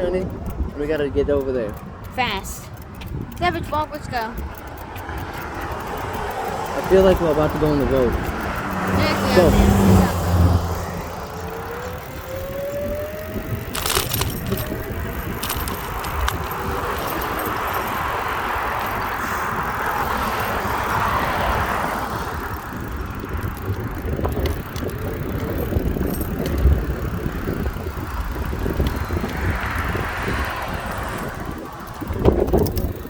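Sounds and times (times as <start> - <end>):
bicycle rattling over road: 0.0 - 33.0
passing vehicle: 0.0 - 33.0
wind buffeting microphone: 0.0 - 33.0.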